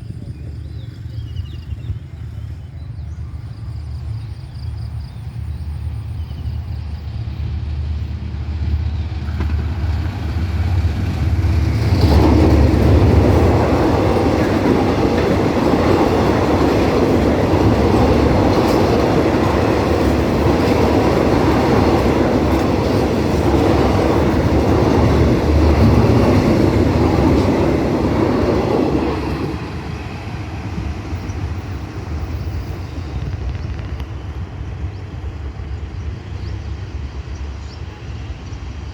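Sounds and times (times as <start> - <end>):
diesel locomotive rumble: 0.0 - 38.9
train wheels running over rails: 3.4 - 38.9.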